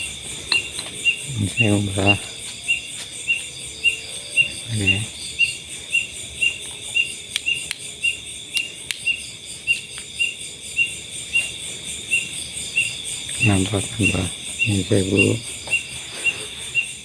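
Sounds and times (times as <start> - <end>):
cricket chirping: 0.0 - 17.0
high insect drone: 0.0 - 17.0.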